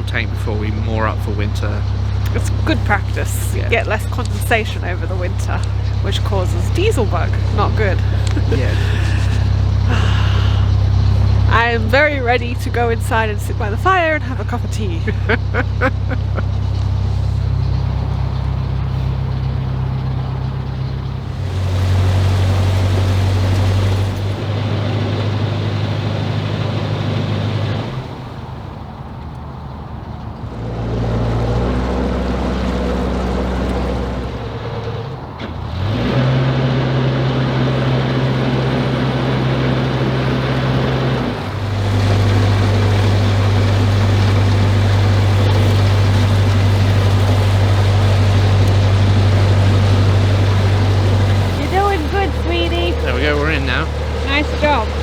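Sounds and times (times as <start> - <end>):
boat diesel engine running: 0.0 - 55.0.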